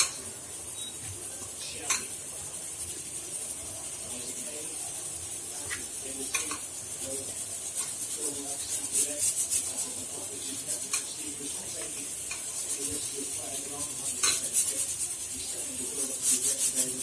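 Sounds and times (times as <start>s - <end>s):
stirring mashed potatoes in bowl: 0.0s - 17.0s.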